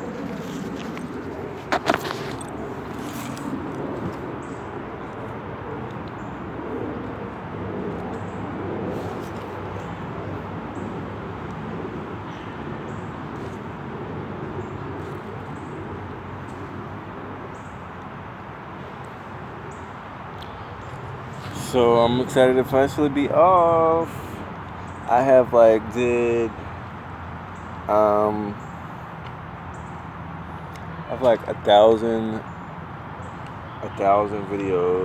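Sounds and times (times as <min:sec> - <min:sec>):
traffic hum: 0:00.0 - 0:35.0.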